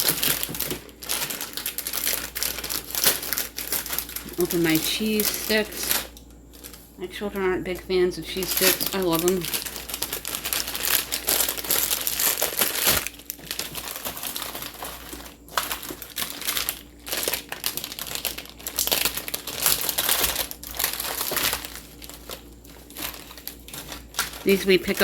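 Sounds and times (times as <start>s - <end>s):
plastic packaging crackling: 0.0s - 25.0s.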